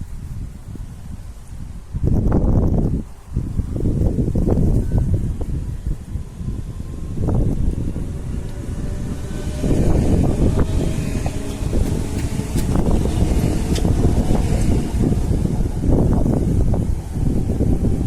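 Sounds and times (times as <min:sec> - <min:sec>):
wind buffeting microphone: 0:00.0 - 0:18.0
train rumbling past: 0:02.2 - 0:18.0.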